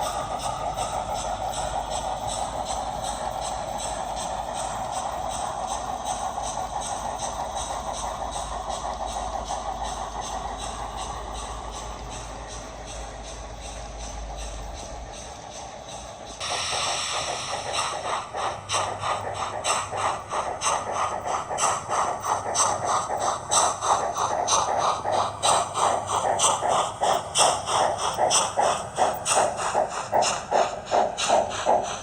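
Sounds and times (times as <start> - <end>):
model steam locomotive chuffing: 0.0 - 32.0.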